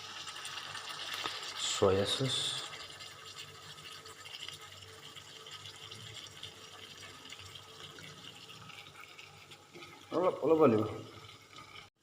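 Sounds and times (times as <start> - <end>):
curry sizzling in a pan: 0.0 - 11.9.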